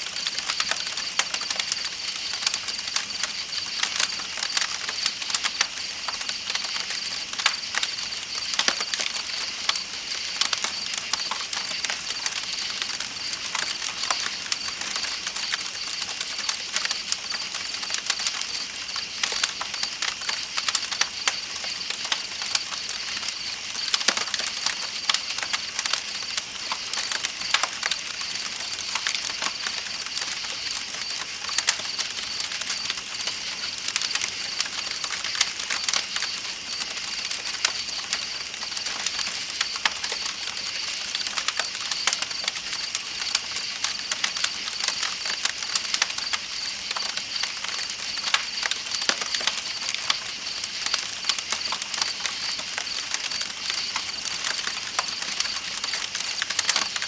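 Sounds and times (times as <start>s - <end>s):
campfire crackling and popping: 0.0s - 57.0s
insects chirping: 0.1s - 57.0s.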